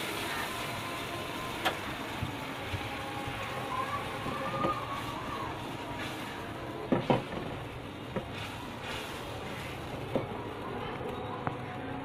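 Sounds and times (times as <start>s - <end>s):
curry sizzling in a pan: 0.0s - 11.7s.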